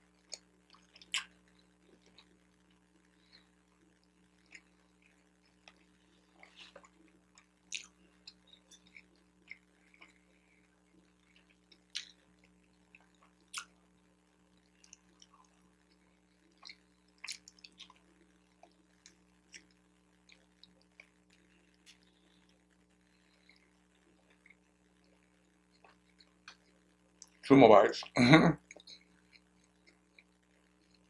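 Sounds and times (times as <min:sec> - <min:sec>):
close chewing and mouth sounds: 0:00.0 - 0:27.4, 0:28.0 - 0:31.0
faint steady hum: 0:00.0 - 0:31.0.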